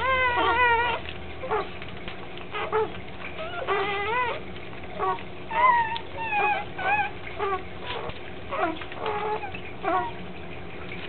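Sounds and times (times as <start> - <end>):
newborn puppies squeaking and whining: 0.0 - 10.2.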